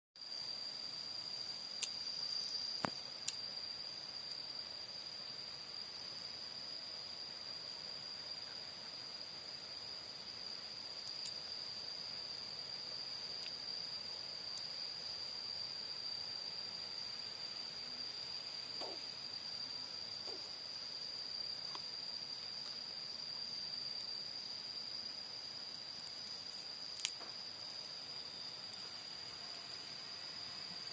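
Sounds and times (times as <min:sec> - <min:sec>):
insect chirring: 0:00.2 - 0:30.9.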